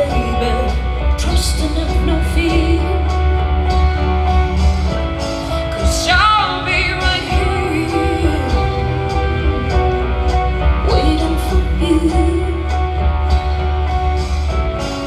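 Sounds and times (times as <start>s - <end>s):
woman singing into microphone: 0.0s - 4.8s, 5.4s - 13.6s
instrumental backing with bass: 0.0s - 15.0s.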